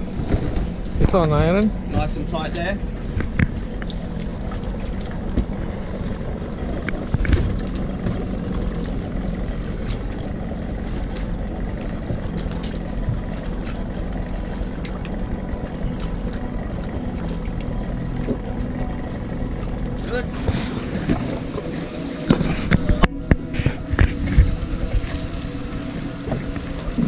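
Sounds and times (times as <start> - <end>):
outboard motor idling: 0.0 - 27.0.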